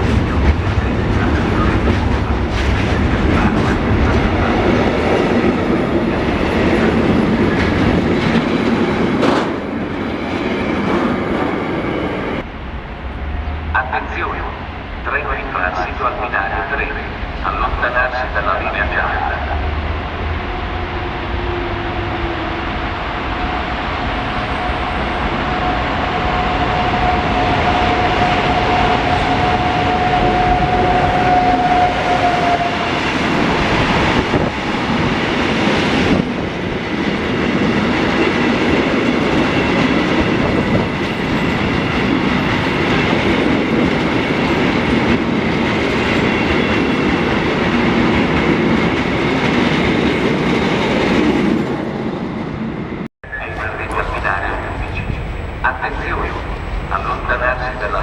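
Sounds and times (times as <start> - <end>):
freight train wagons rumbling: 0.0 - 58.0.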